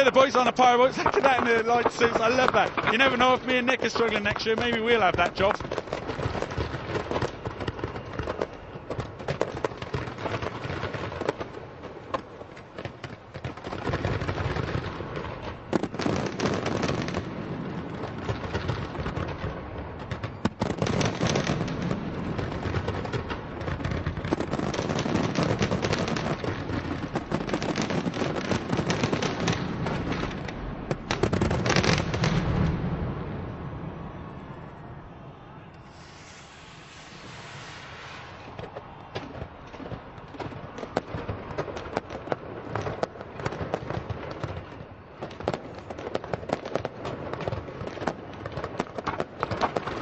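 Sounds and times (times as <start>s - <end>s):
firework bursts and crackling: 0.0s - 33.4s, 35.9s - 50.0s.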